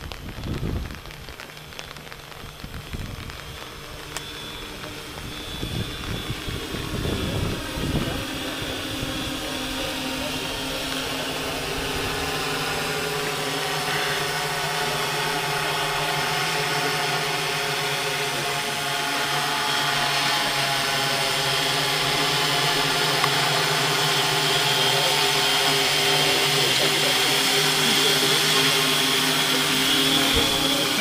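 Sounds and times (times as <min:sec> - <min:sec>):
drone propellers humming: 0:00.0 - 0:31.0.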